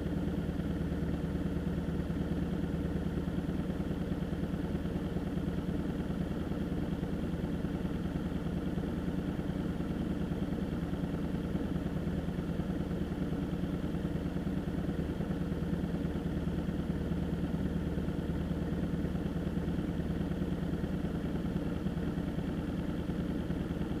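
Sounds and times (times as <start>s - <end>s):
vehicle engine running steadily: 0.0s - 24.0s.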